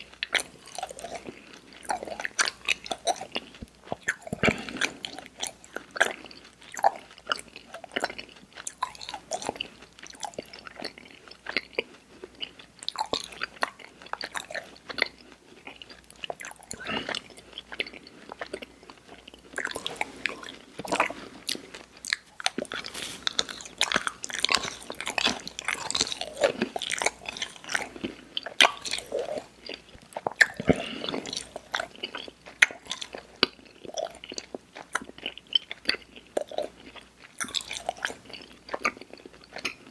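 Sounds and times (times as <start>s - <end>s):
chewing with mouth smacks: 0.0s - 39.9s.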